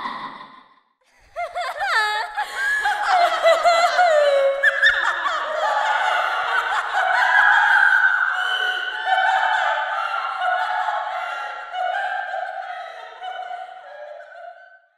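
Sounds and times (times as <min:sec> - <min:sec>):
girls laughing and snickering: 0:01.1 - 0:14.4.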